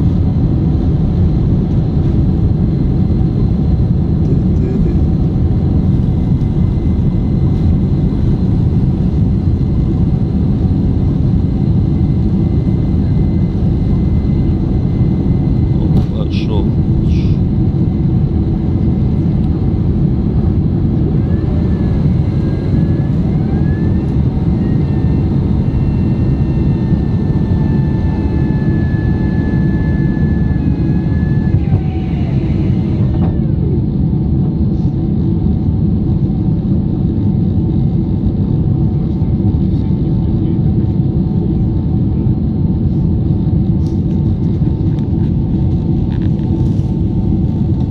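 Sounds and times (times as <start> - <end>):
airliner engines rumbling: 0.0 - 47.9.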